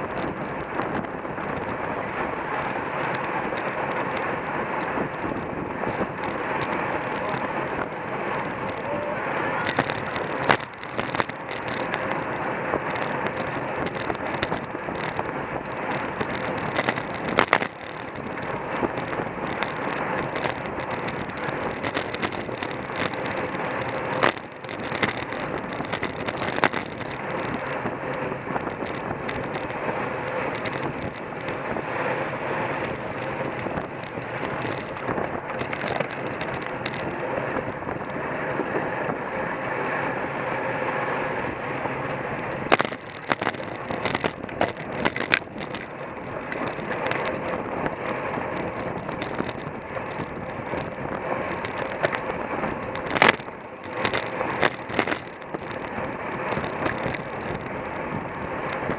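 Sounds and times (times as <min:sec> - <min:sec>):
bicycle tyre noise: 0:00.0 - 0:58.9.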